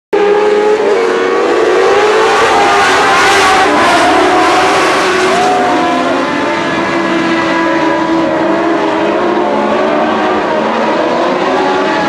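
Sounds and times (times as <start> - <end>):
race car engines revving: 0.2 - 12.0.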